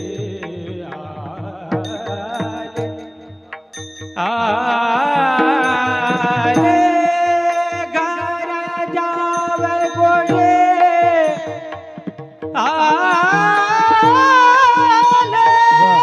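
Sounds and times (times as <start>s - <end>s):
man singing high devotional phrase: 0.0s - 3.4s, 4.2s - 16.0s
drum strokes: 0.0s - 16.0s.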